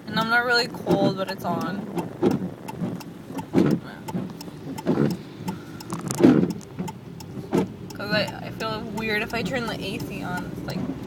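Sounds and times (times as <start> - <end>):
rain ticking on car: 0.0 - 11.0
windshield wipers sweeping: 0.0 - 11.0.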